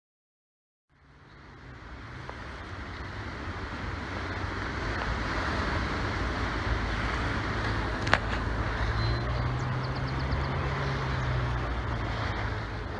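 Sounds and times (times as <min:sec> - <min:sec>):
floodwater roaring over spillway: 0:00.9 - 0:12.9.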